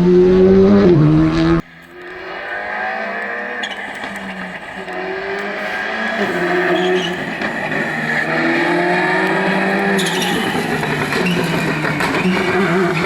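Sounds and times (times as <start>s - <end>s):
distant rally car accelerating: 0.0s - 13.0s
rally car engine at high revs: 0.0s - 13.0s.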